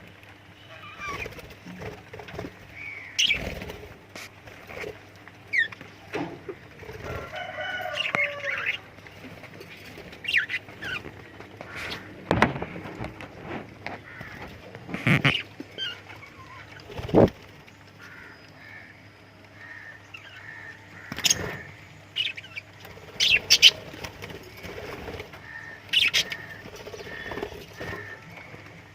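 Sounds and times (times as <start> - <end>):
lovebirds chirping and squawking: 0.6 - 6.0, 6.8 - 13.0, 13.9 - 28.9
wing flutters: 0.8 - 5.7, 6.8 - 18.8, 19.6 - 28.9.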